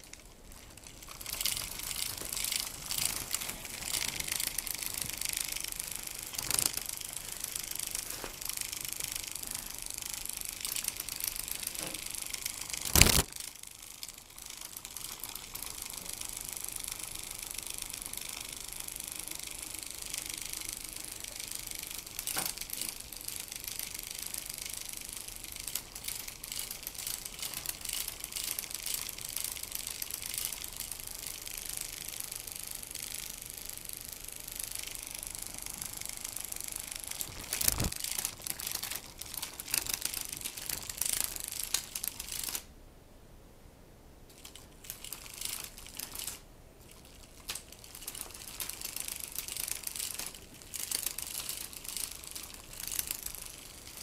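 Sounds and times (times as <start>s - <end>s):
toy mechanism clicking and rattling: 0.0s - 42.7s, 44.3s - 54.0s.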